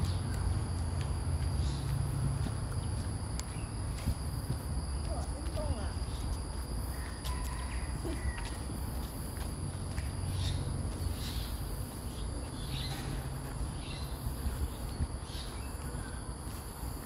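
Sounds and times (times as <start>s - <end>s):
insects droning: 0.0s - 17.0s
soft footsteps: 0.0s - 17.0s.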